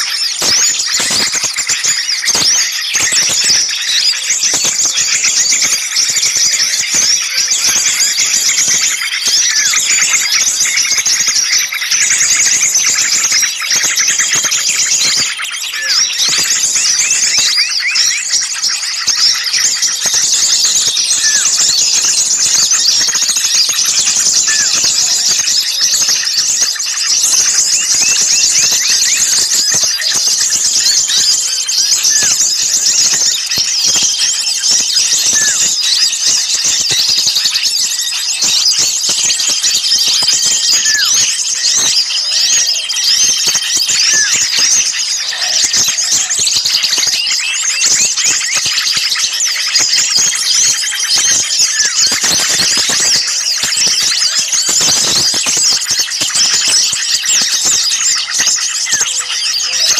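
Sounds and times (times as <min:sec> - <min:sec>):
small songbirds chirping: 0:00.0 - 0:59.9
whistled bird notes: 0:00.0 - 0:59.9.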